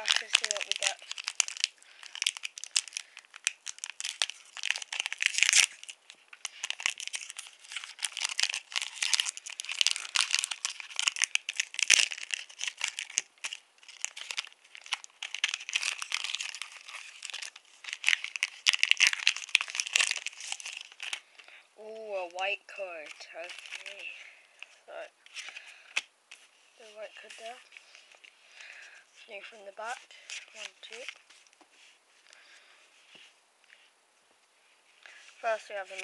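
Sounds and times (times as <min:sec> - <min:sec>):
foil wrapper crinkling and tearing: 0:00.0 - 0:33.2, 0:35.0 - 0:36.0.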